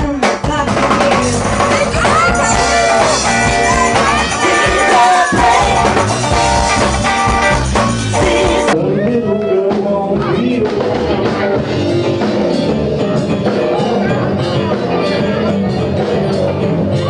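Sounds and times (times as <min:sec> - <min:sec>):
dull live singing over music: 0:00.0 - 0:06.6, 0:07.9 - 0:17.0
live band with singing: 0:00.0 - 0:17.0.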